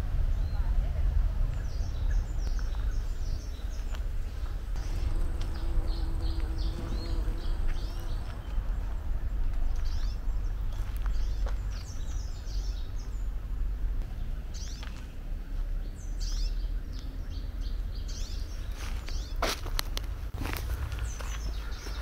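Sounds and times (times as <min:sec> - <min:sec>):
steady low rumble: 0:00.0 - 0:16.2, 0:16.8 - 0:22.0
songbirds chirping: 0:00.0 - 0:22.0.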